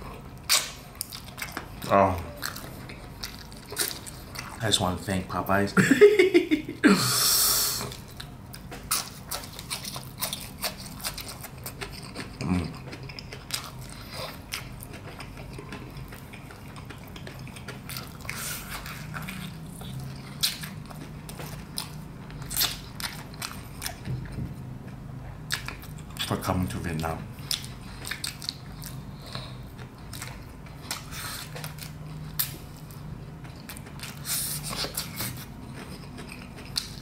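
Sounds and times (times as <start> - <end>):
person biting and chewing chicken: 0.0 - 4.8, 7.6 - 24.4, 27.4 - 37.0.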